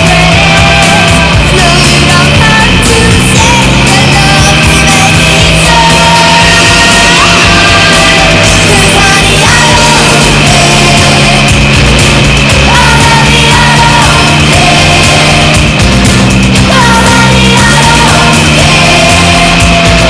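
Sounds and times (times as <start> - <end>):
loud rock music: 0.0 - 20.0.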